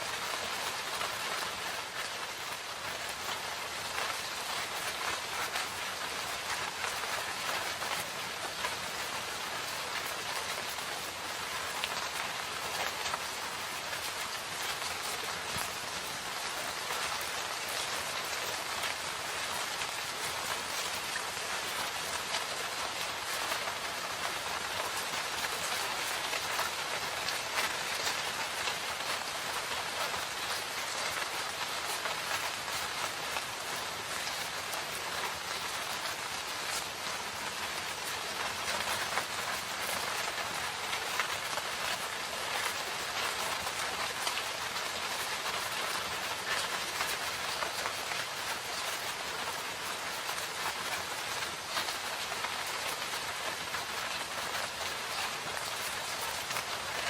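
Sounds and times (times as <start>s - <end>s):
drops pattering on leaves: 0.0s - 57.0s
steady rain hiss: 0.0s - 57.0s.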